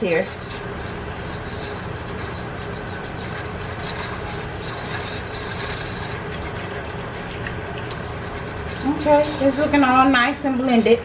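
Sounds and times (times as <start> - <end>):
low hum: 0.0 - 11.0
whisk swishing in saucepan: 0.0 - 11.0.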